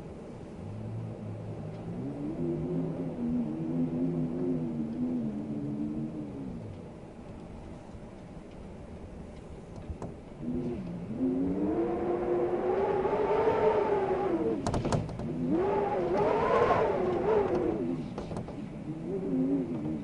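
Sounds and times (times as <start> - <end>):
wind howling in gusts: 0.0 - 20.0.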